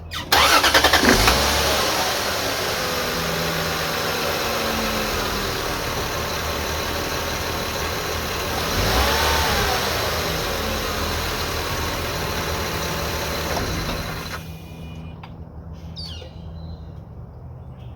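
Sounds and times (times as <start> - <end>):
car engine revving: 0.0 - 14.6
car engine idling with high whine: 0.0 - 17.9.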